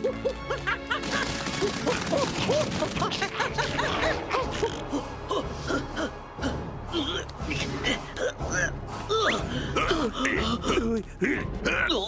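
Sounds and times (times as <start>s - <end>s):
fast cartoon music: 0.0s - 12.0s.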